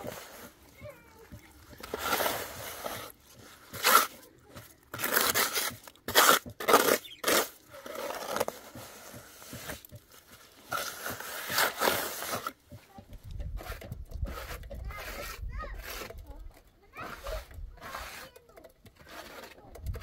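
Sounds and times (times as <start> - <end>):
trowel scraping wet mortar: 0.0 - 20.0.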